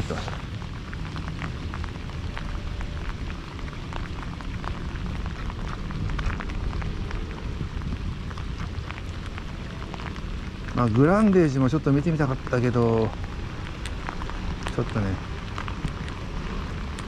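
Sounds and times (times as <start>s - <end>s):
sharp raindrop ticks: 0.0s - 17.0s
steady rain falling: 0.0s - 17.0s.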